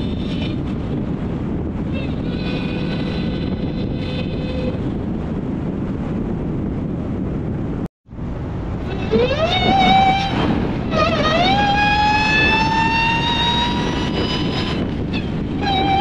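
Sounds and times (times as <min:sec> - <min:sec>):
wind and road noise rushing: 0:00.0 - 0:16.0.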